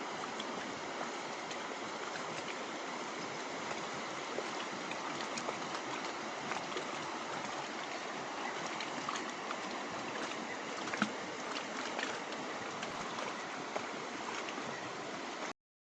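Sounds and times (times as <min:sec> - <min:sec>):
flowing water rushing: 0:00.0 - 0:15.5.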